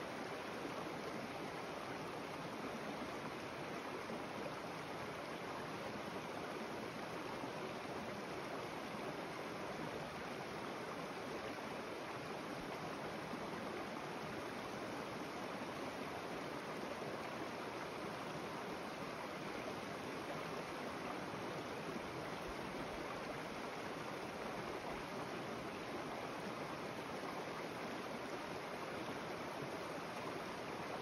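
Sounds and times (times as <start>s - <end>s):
creek water running over rocks: 0.0s - 31.0s.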